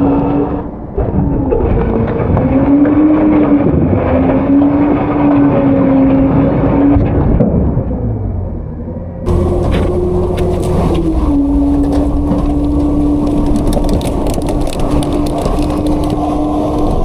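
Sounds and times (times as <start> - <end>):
garbage truck engine running: 0.0 - 17.0
hydraulic whine: 0.0 - 17.0.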